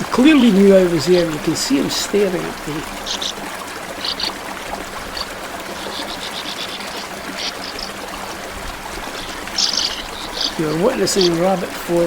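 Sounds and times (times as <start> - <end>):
small stream running: 0.0 - 12.0.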